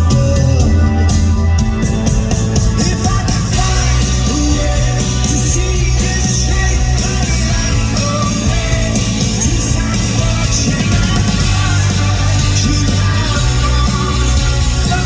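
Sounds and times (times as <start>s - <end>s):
person singing: 0.0s - 15.0s
rock band playing live: 0.0s - 15.0s.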